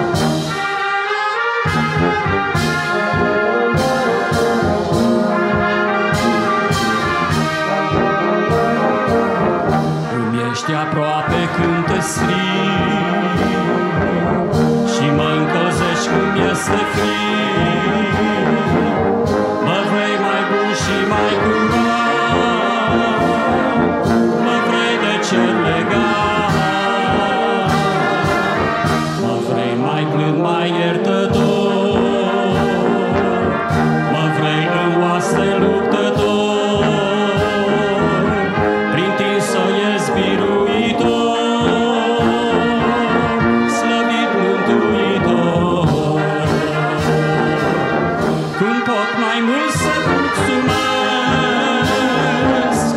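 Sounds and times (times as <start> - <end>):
brass band playing a hymn: 0.0 - 52.9.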